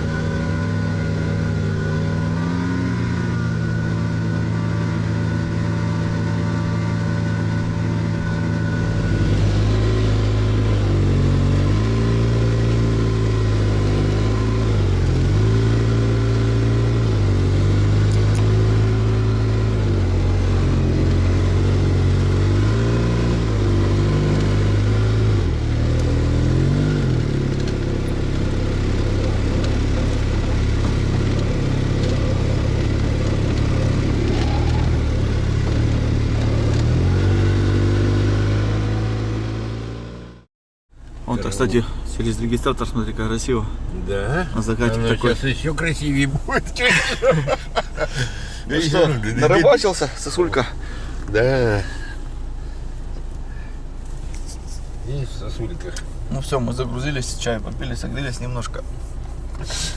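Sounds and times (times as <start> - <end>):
car engine revving while driving: 0.0 - 40.5, 41.2 - 59.9.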